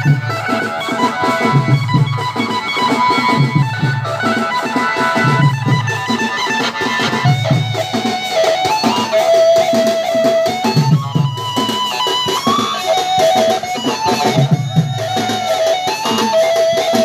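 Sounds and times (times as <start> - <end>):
heavy drum beat: 0.0 - 17.0
live band playing dance music: 0.0 - 17.0.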